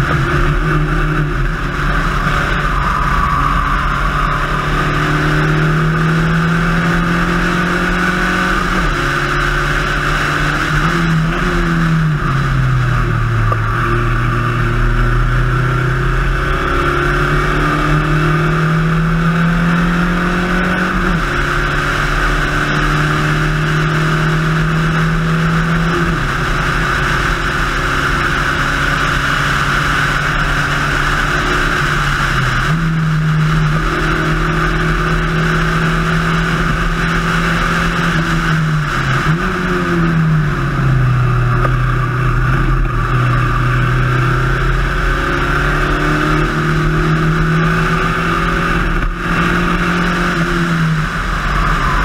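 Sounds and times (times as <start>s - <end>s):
race car engine revving: 0.0s - 52.0s.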